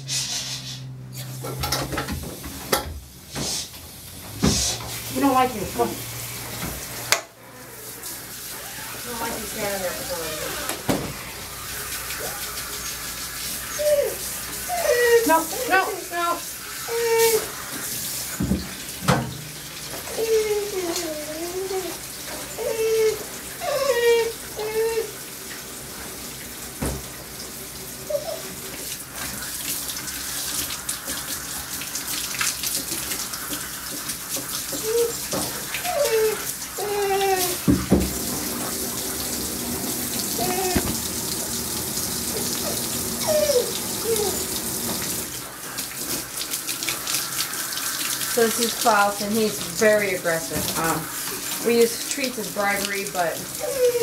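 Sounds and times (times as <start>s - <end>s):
water spraying from bath sprayer: 0.0s - 54.0s.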